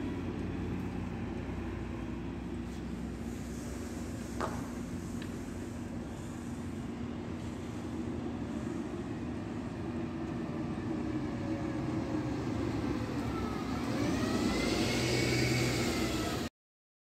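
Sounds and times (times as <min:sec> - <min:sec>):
bus engine driving past: 0:00.0 - 0:16.5
drivetrain whine: 0:00.0 - 0:16.5.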